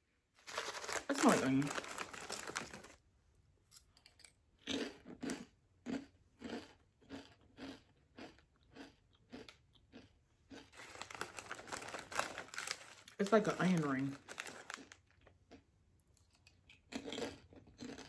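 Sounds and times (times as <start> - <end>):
potato chip crunching: 0.4 - 3.0, 3.7 - 15.6, 16.2 - 18.0.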